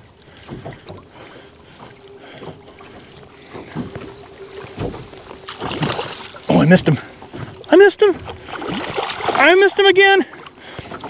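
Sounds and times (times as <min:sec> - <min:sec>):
soft knocks in boat: 0:00.0 - 0:09.3
boat motor humming: 0:00.0 - 0:11.0.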